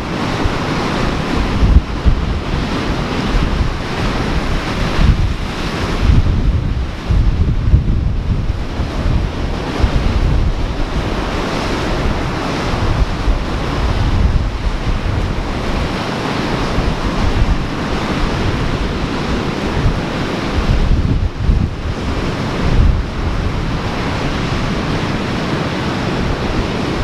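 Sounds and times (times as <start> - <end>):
ocean surf washing ashore: 0.0 - 27.0
wind buffeting microphone: 0.0 - 27.0.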